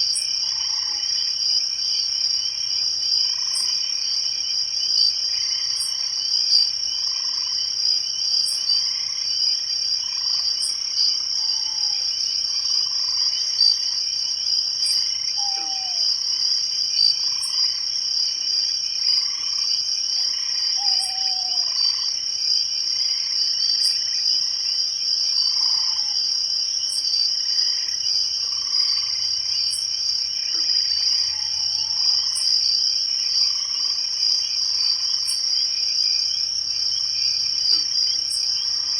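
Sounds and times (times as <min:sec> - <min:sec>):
frogs calling: 0:00.0 - 0:02.1, 0:03.0 - 0:38.9
crickets and insects chirping: 0:00.0 - 0:38.9.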